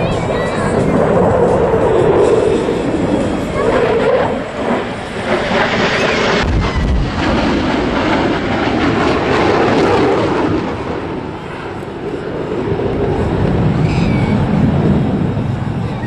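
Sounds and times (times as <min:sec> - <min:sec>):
jet engines roaring overhead: 0:00.0 - 0:16.0.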